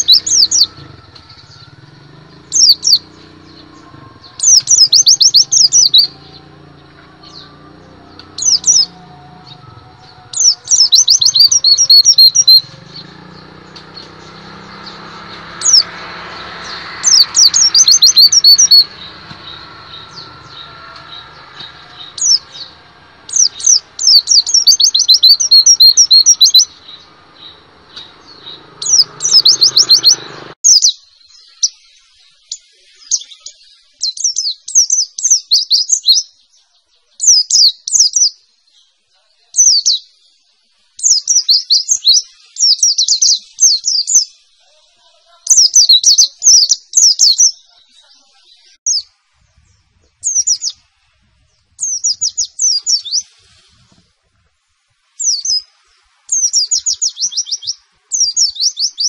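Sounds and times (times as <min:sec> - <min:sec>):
small bird singing rapid song: 0:00.0 - 0:54.2, 0:55.1 - 0:59.0.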